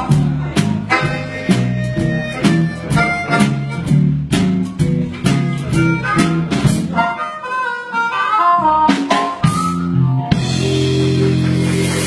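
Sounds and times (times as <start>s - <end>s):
harmonica melody: 0.0s - 11.8s
blues band playing: 0.0s - 12.0s.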